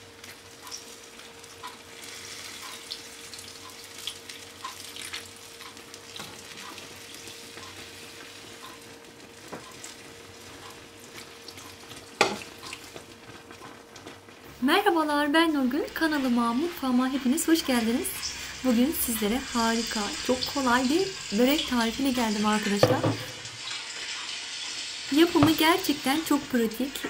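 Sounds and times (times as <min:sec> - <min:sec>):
faint steady hum: 0:00.0 - 0:27.0
water sizzling in hot dish: 0:00.0 - 0:27.0.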